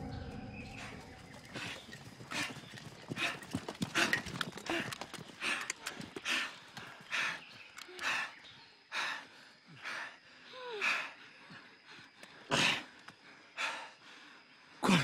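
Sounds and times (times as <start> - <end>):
people panting heavily: 0.7 - 15.0.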